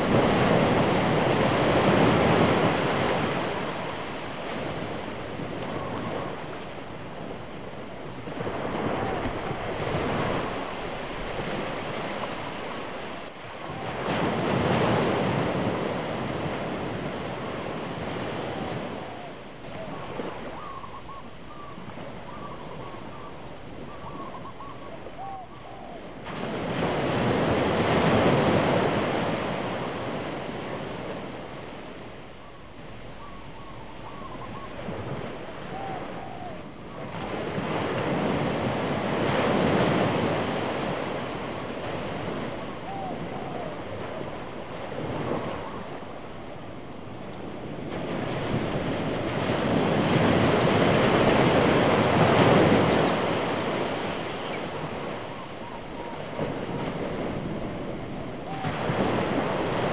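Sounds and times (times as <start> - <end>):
waves breaking on a shore: 0.0 - 59.9.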